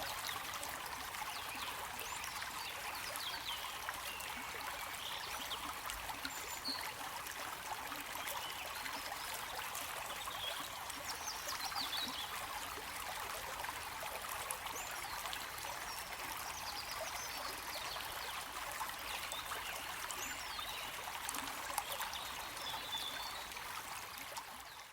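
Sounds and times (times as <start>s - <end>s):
stream water trickling: 0.0s - 24.9s.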